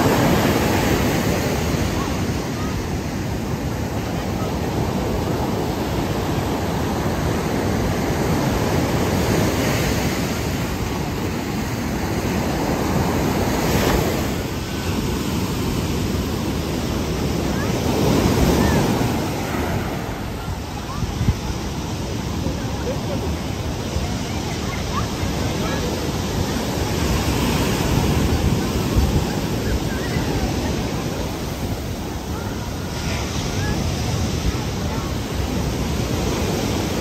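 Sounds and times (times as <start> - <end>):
ocean waves breaking on beach: 0.0 - 37.0.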